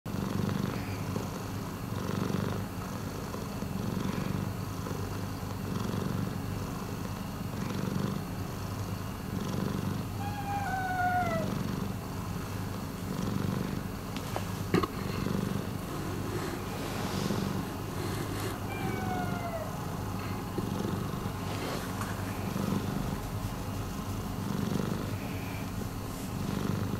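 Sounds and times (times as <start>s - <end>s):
cat purring: 0.1s - 26.9s.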